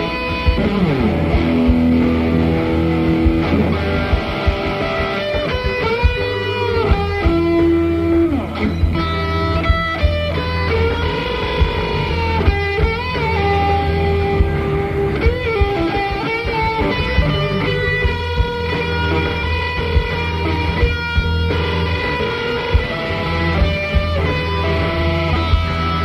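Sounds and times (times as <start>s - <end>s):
fuzz electric guitar lead: 0.0s - 26.0s.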